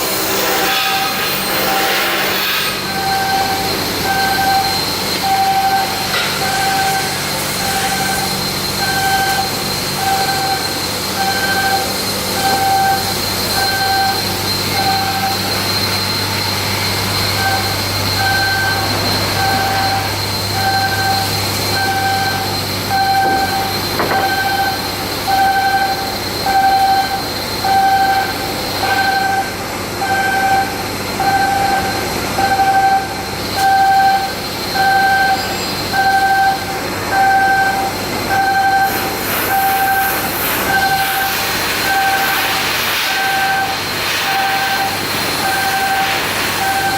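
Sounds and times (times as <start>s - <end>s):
electronic warning alarm beeping: 0.0s - 46.9s
machinery hum: 0.0s - 46.9s.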